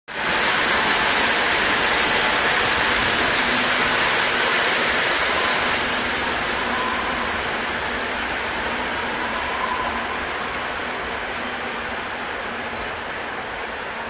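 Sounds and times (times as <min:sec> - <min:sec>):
train wheels rushing on rails: 0:00.1 - 0:14.0.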